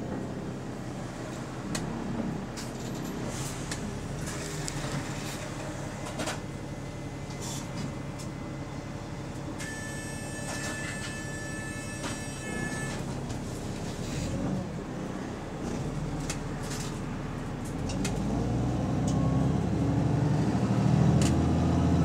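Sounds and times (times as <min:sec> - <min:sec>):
bus engine humming: 0:00.0 - 0:22.0.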